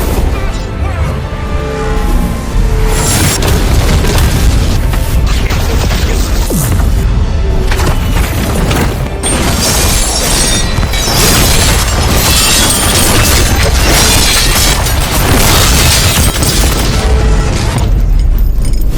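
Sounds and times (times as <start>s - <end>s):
background music: 0.0s - 18.9s
booms and crashes: 2.9s - 18.6s.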